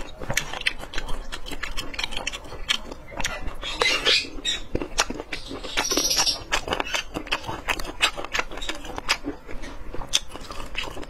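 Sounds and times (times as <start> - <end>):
lip smacks and squelches: 0.0 - 11.0
wet chewing: 0.0 - 11.0.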